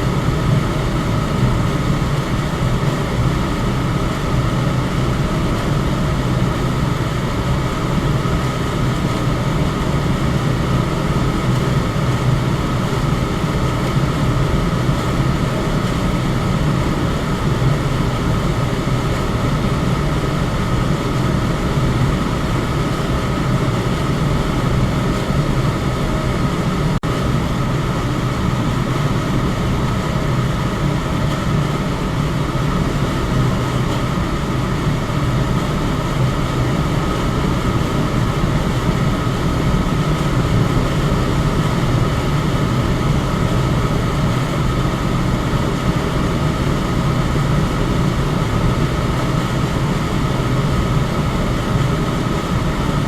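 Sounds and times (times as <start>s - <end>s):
electric fan whooshing: 0.0s - 53.0s.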